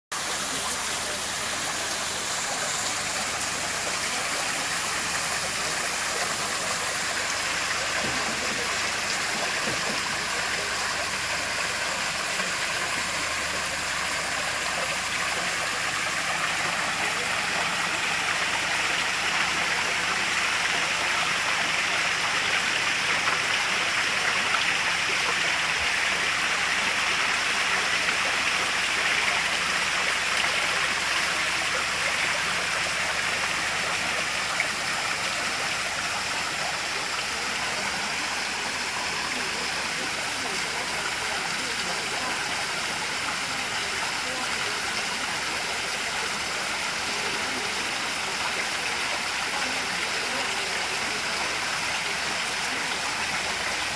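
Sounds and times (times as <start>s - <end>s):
small waterfall splashing: 0.1s - 53.9s.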